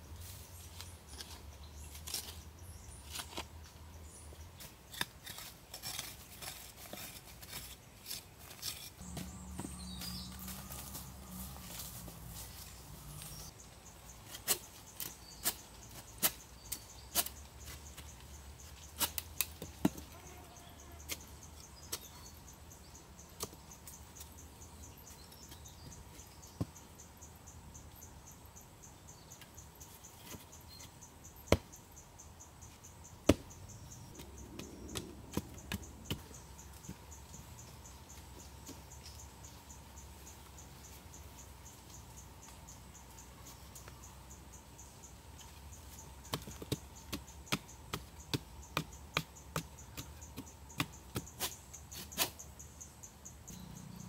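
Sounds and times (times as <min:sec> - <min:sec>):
insects chirping: 0:08.6 - 0:54.0.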